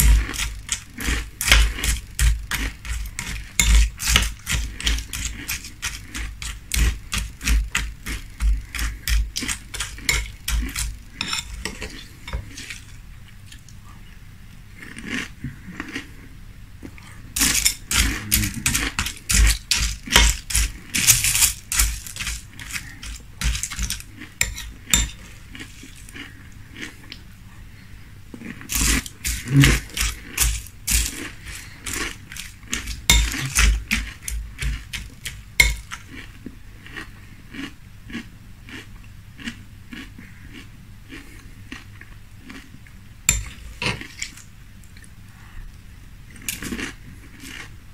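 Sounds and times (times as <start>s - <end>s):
chewing crunchy cereal: 0.0s - 45.2s, 46.3s - 47.8s.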